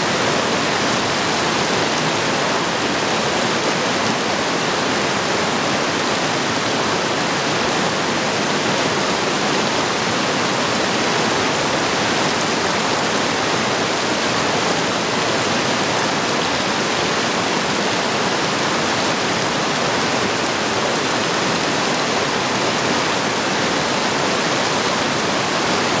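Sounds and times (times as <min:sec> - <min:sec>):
creek running over rocks: 0:00.0 - 0:26.0.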